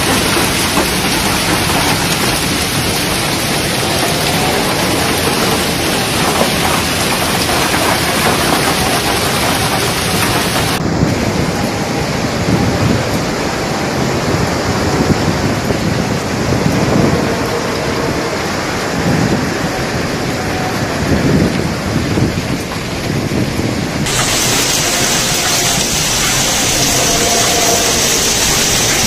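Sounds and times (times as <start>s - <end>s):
hail and rain falling heavily: 0.0s - 29.0s.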